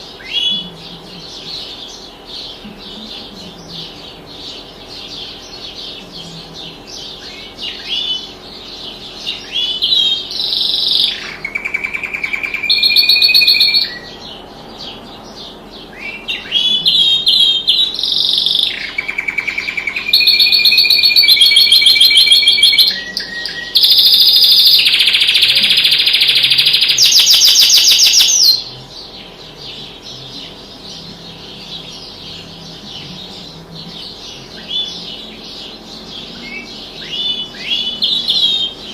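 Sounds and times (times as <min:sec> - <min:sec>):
faint steady hum: 0:00.0 - 0:38.9
songbird singing: 0:00.0 - 0:38.9.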